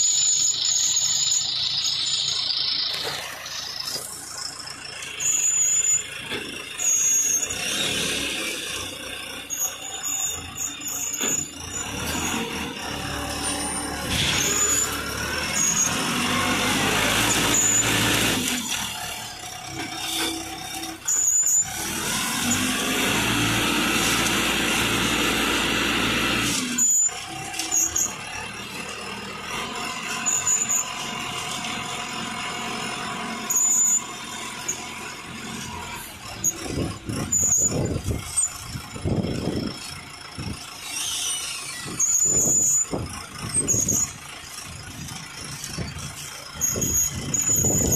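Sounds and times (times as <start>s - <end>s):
concrete mixer engine revving: 0.0s - 47.9s.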